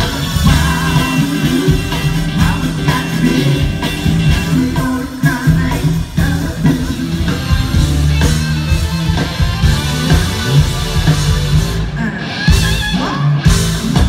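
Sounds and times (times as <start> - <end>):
drums keeping a steady beat: 0.0 - 14.0
live funk band playing: 0.0 - 14.0
repeating bass line: 0.0 - 14.0.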